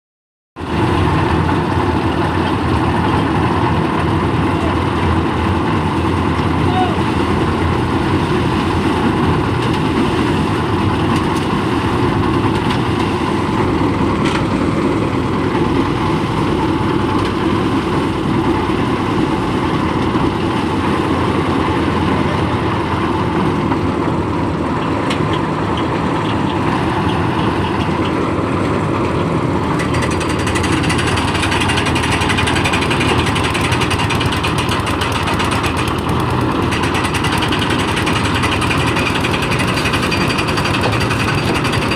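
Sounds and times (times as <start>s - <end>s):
concrete mixer engine running: 0.6s - 41.9s.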